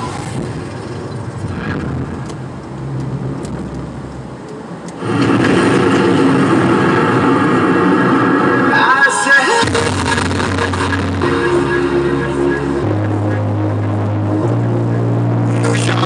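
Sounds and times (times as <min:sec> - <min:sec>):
car engine and tyres rumbling: 0:00.0 - 0:16.0
steady rushing noise: 0:00.0 - 0:16.0.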